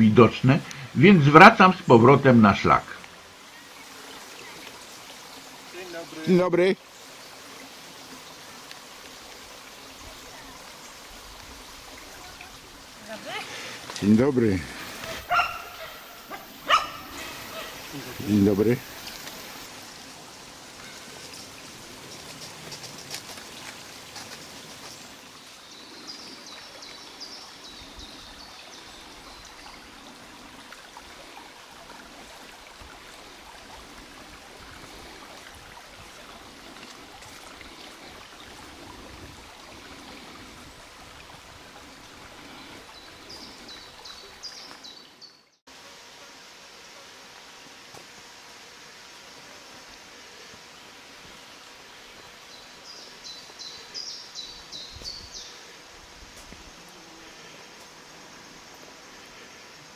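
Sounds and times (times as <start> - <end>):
creek running: 0.0 - 59.9
steady hiss: 0.0 - 59.9.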